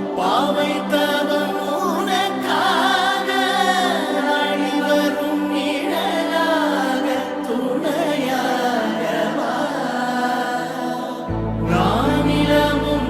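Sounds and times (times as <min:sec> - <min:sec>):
voices singing a devotional chant: 0:00.0 - 0:13.0.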